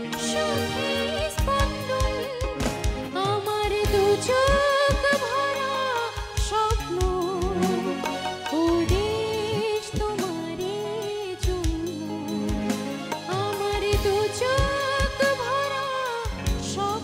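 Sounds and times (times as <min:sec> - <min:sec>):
electric guitar: 0:00.0 - 0:17.0
keyboards: 0:00.0 - 0:17.0
steady drumbeat: 0:00.0 - 0:17.0
woman singing: 0:00.0 - 0:17.0.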